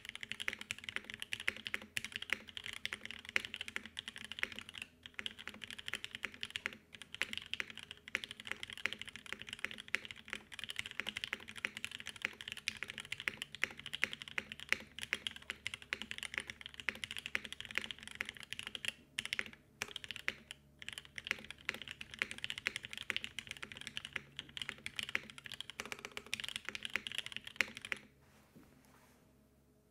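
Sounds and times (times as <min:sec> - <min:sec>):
fast mechanical keyboard typing: 0:00.0 - 0:28.1.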